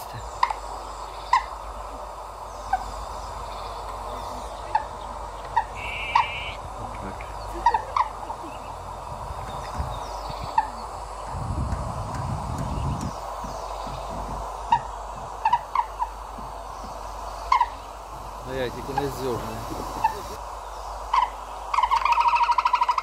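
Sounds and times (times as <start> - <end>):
low rumble: 0.0 - 21.8
sharp bird calls: 0.0 - 23.0.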